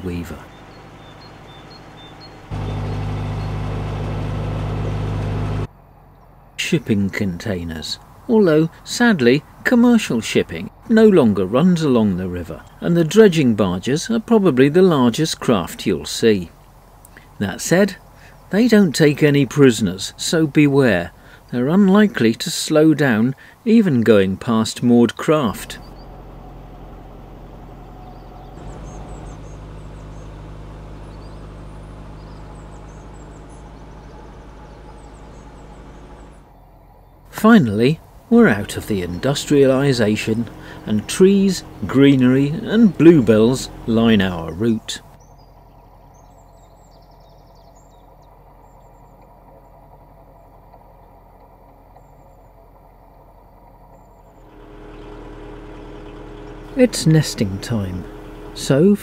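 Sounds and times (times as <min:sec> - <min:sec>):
boat engine hum: 0:00.0 - 0:59.0
small birds singing: 0:00.0 - 0:59.0
songbird chirps: 0:00.0 - 0:59.0.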